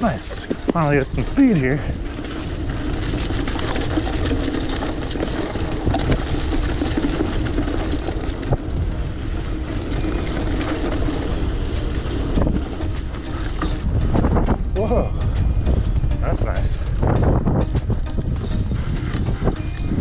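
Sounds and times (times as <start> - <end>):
bike rattles and clicks: 0.0 - 20.0
bike tyre noise: 0.0 - 20.0
wind rumbling on microphone: 0.0 - 20.0.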